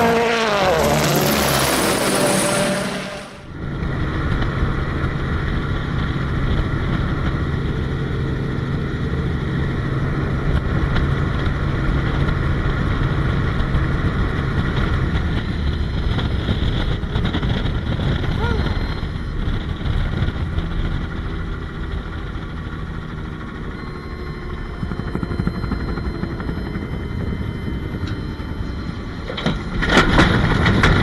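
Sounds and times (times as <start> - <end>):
steady engine drone: 0.0 - 31.0.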